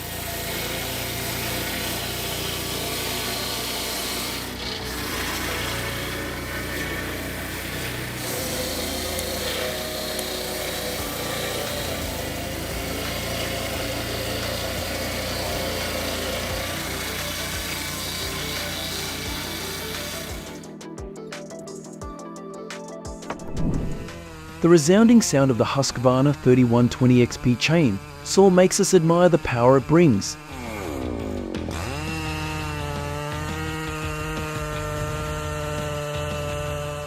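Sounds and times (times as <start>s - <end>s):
powered saw cutting log: 0.0s - 20.8s, 23.3s - 37.0s.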